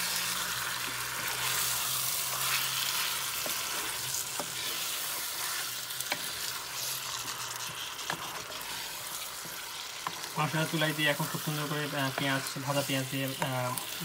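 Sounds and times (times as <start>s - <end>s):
chicken sizzling in a frying pan: 0.0s - 14.0s.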